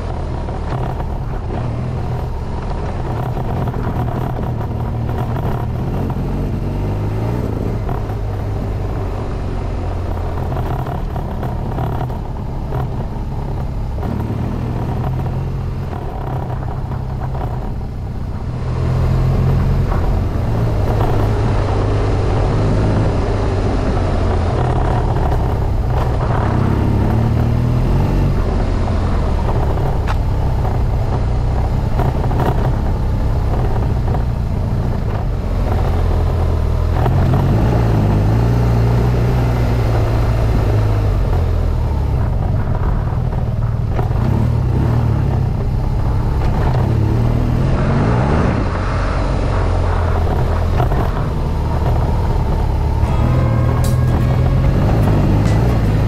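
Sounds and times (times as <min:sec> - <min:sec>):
motorcycle engine running: 0:00.0 - 0:56.0
wind: 0:00.0 - 0:56.0.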